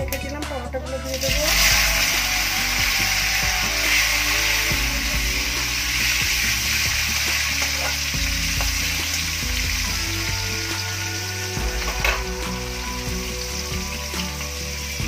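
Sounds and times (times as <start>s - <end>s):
spices sizzling in hot oil: 1.1s - 15.0s.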